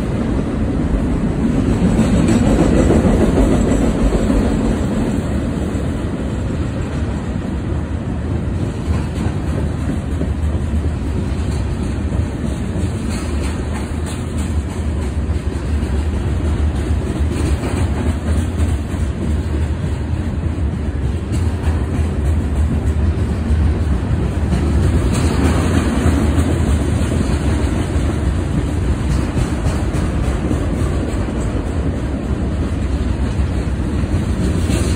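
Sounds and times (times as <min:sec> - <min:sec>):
train wheels rumbling on rail: 0:00.0 - 0:34.9
wheels clacking on track: 0:00.0 - 0:34.9.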